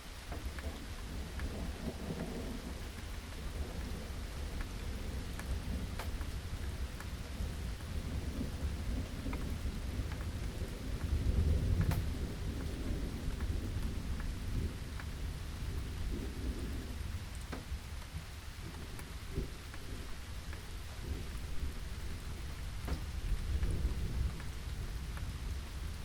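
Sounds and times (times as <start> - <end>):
low rumble of thunder: 0.0 - 26.0
sharp raindrop taps: 0.0 - 26.0
steady rain: 0.0 - 26.0.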